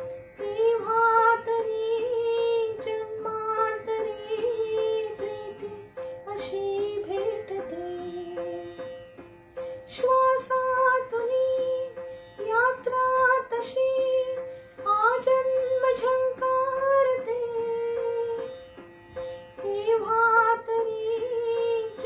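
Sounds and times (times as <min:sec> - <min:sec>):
woman singing: 0:00.0 - 0:09.0, 0:09.8 - 0:18.6, 0:19.6 - 0:22.0
instrumental accompaniment: 0:00.0 - 0:22.0.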